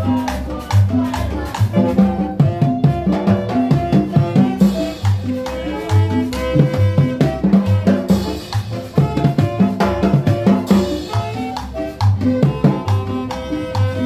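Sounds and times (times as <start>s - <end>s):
bass line: 0.0s - 14.0s
drums and cymbal beat: 0.0s - 14.0s
saxophone: 0.0s - 14.0s.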